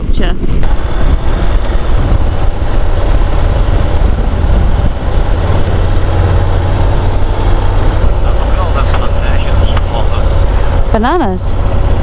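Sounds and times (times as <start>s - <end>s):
motorcycle engine rumble: 0.0s - 12.0s
wind rush: 0.0s - 12.0s.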